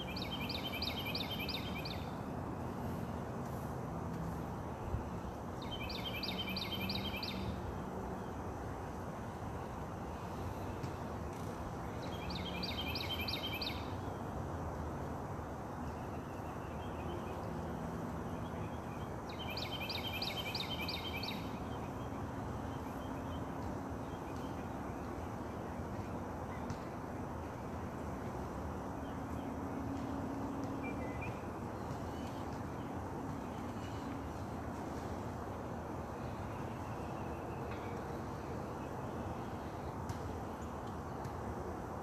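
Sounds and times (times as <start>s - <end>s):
outdoor background noise: 0.0s - 42.0s.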